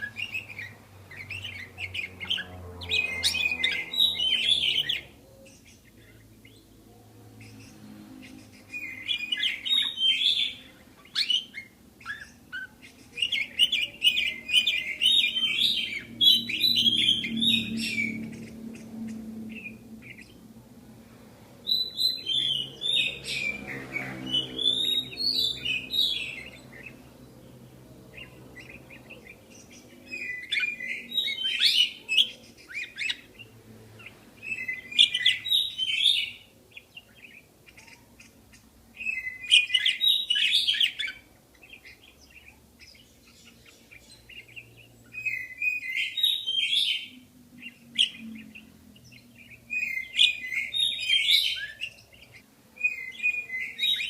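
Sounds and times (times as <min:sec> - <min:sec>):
budgerigars chirping: 0:00.0 - 0:20.5, 0:21.6 - 0:54.0.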